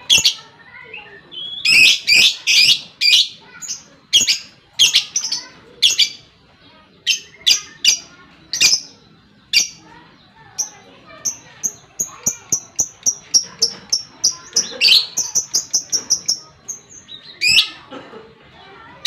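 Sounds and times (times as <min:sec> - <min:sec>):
lovebird chattering: 0:00.0 - 0:06.3, 0:07.0 - 0:17.9.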